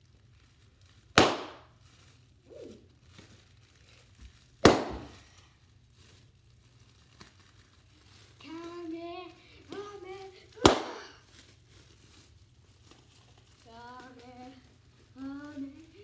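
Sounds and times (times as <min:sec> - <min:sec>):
bubble wrap popping: 0:00.0 - 0:16.0
plastic crinkling: 0:00.0 - 0:16.0.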